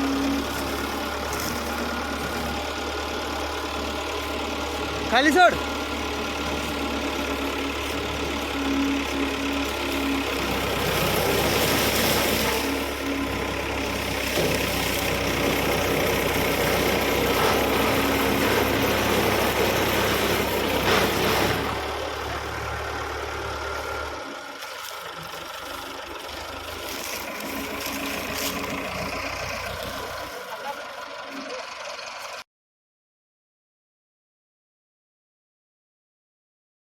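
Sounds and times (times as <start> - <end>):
harvester engine and machinery: 0.0 - 32.5.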